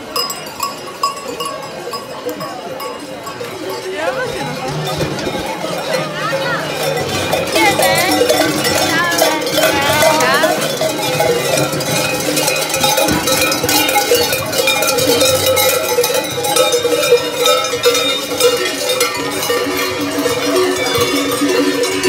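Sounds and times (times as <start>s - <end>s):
large cowbells clanging: 0.0s - 22.0s.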